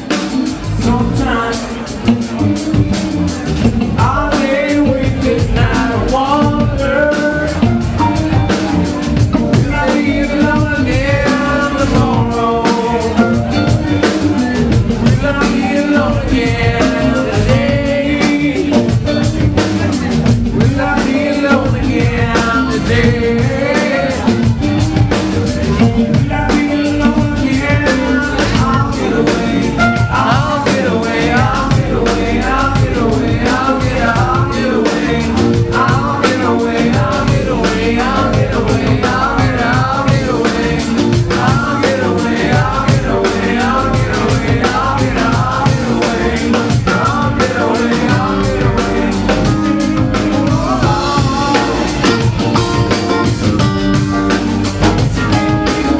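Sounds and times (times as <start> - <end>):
lead guitar bending notes: 0.0 - 55.9
live rock band playing: 0.0 - 55.9.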